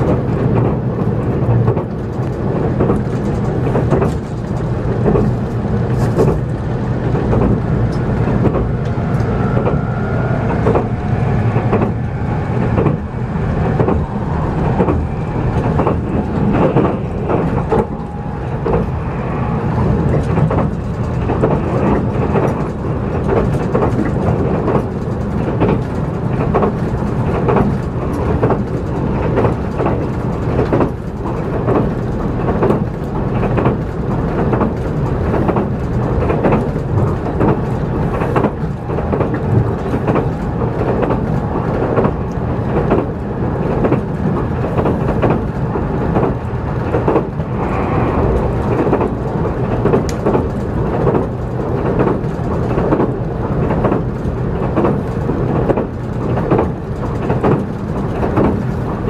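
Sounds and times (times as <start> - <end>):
train cabin rumble: 0.0 - 59.0
train knocks: 0.0 - 59.0.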